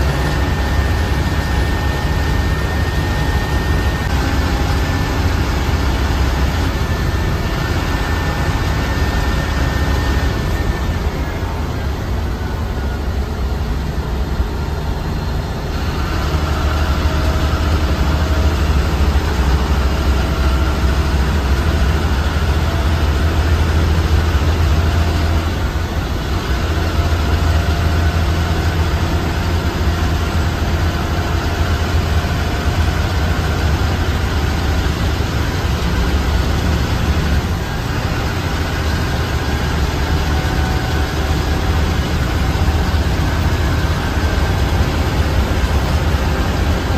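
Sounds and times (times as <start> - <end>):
bus engine and road noise: 0.0 - 46.9
faint whine: 0.0 - 46.9.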